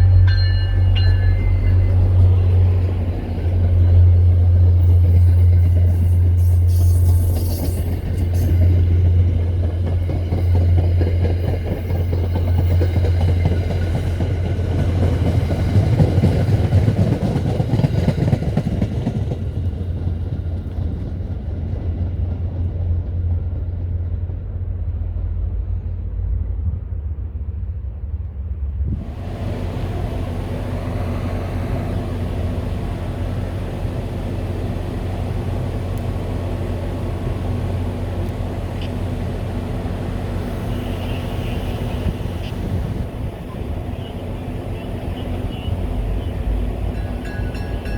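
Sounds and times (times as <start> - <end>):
train running on rails: 0.0 - 47.9.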